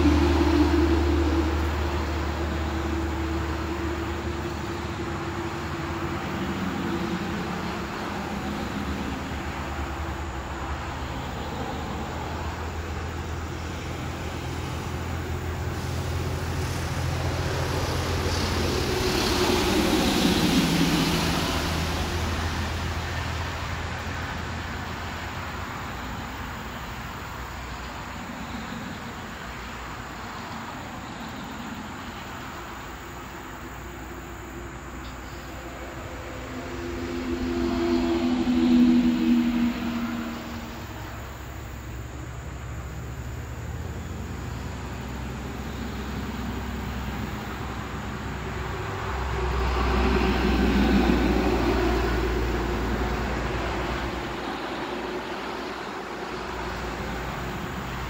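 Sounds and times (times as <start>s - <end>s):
vehicle passing: 0.0s - 58.0s.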